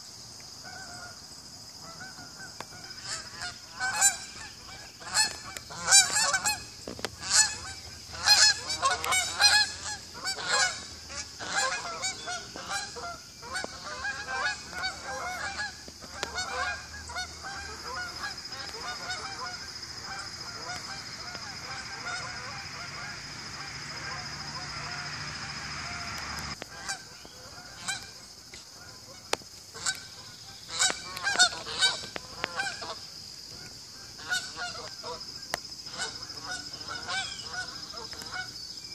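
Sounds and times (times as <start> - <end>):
geese honking: 0.6 - 1.2, 1.8 - 38.6.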